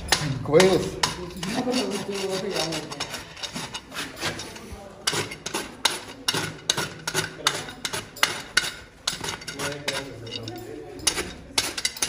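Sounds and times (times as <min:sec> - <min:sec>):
hand tool scraping hoof: 0:00.0 - 0:12.0.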